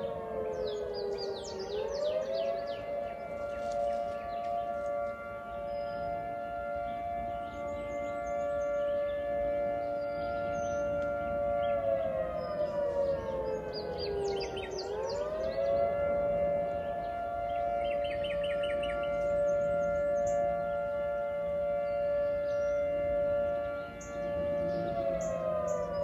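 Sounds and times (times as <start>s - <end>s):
birds chirping faintly: 0.0s - 26.0s
two-tone tornado siren: 0.0s - 26.0s.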